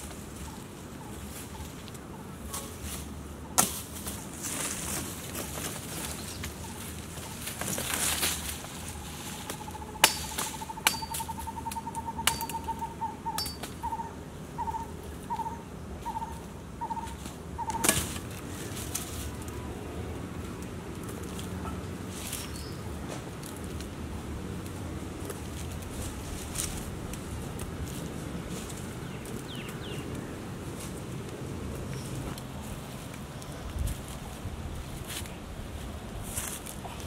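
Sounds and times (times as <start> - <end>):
dry leaves and stems rustling: 0.0 - 37.0.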